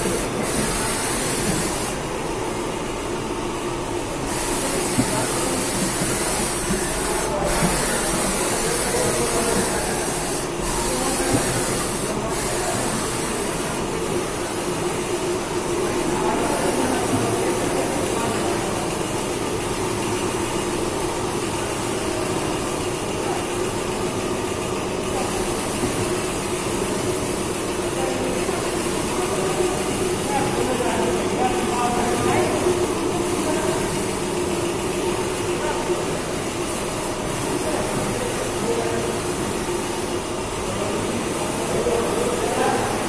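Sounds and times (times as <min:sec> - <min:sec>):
milling machine hum: 0:00.0 - 0:43.0.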